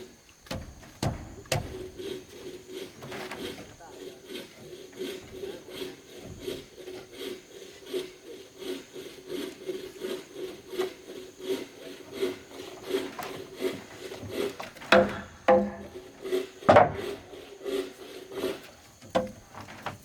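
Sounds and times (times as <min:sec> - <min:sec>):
hand saw cutting wood: 0:00.0 - 0:20.0.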